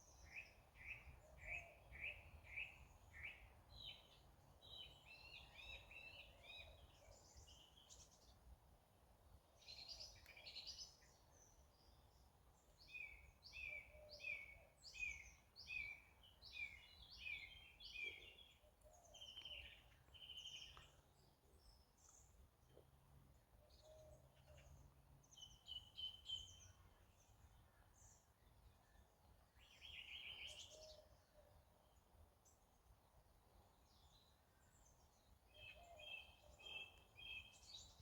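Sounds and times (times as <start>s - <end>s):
songbirds singing and chirping: 0.0s - 38.0s.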